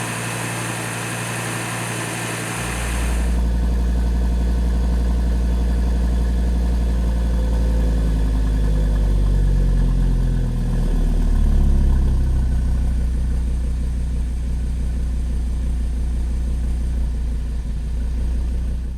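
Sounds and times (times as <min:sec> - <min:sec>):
car engine idling: 0:00.0 - 0:09.2, 0:12.2 - 0:18.9.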